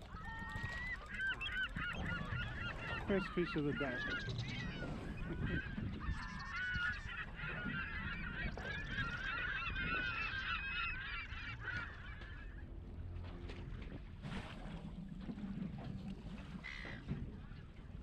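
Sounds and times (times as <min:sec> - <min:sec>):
gulls squawking: 0:00.0 - 0:13.1, 0:16.3 - 0:18.0.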